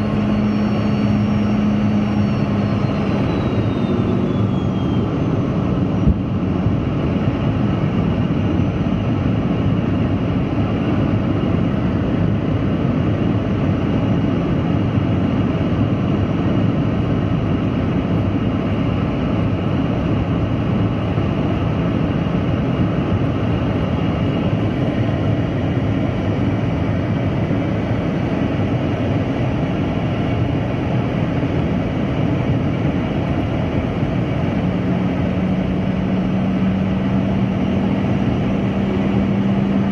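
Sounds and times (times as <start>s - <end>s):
jet airliner engine roar: 0.0s - 39.9s.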